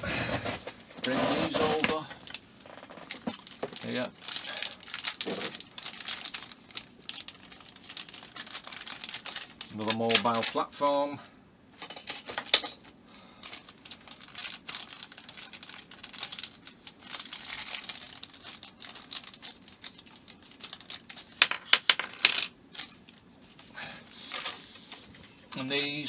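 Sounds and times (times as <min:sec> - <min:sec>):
plastic parts clicking and rustling: 0:00.6 - 0:10.6, 0:11.8 - 0:25.9.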